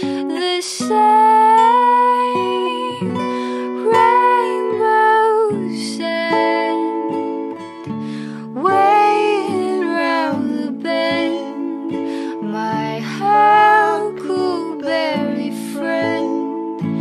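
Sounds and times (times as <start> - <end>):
slow song with plucked guitar: 0.0 - 17.0.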